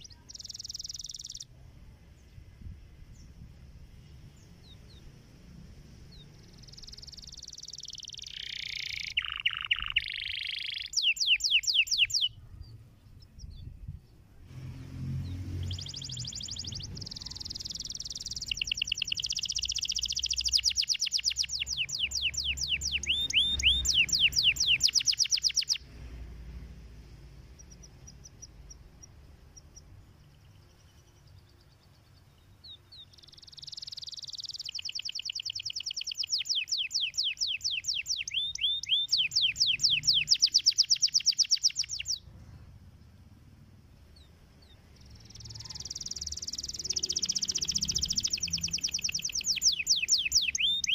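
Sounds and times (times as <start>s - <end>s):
canary singing: 0.0s - 1.5s, 6.0s - 13.6s, 15.2s - 25.8s, 27.4s - 42.3s, 44.1s - 50.9s.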